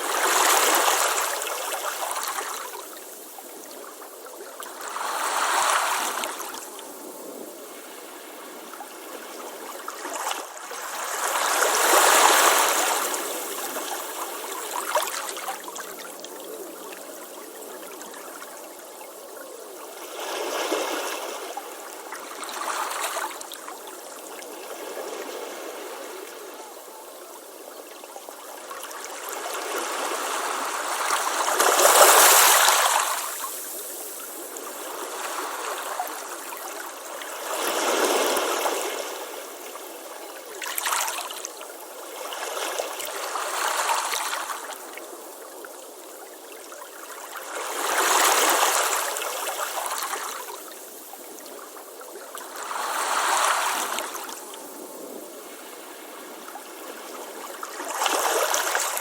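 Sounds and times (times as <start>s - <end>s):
ocean waves breaking on beach: 0.0s - 18.6s, 19.9s - 45.4s, 46.0s - 59.0s.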